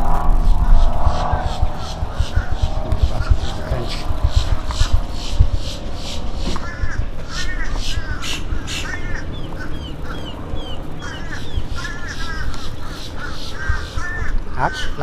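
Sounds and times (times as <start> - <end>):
birds cawing: 0.0 - 15.0
wind on microphone: 0.0 - 15.0.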